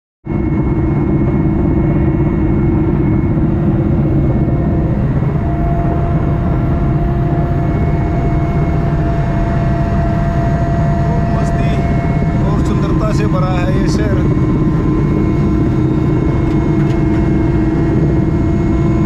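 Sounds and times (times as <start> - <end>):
helicopter engine and rotor drone: 0.3 - 19.0
high steady whine: 0.3 - 19.0.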